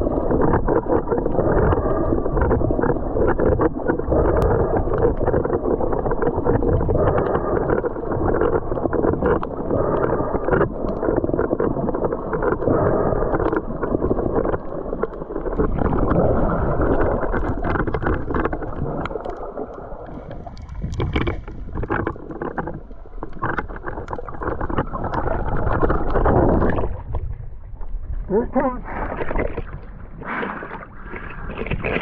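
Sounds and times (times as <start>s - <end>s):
small clicks and crackles: 0.0s - 28.1s, 31.1s - 32.0s
muffled underwater water churning: 0.0s - 32.0s.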